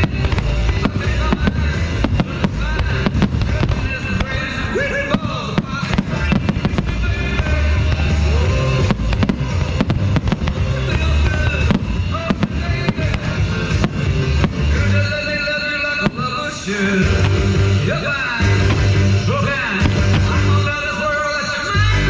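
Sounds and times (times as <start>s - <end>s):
low rumble: 0.0s - 21.0s
fireworks bangs and crackles: 0.0s - 22.0s
loud music through speakers: 0.0s - 22.0s.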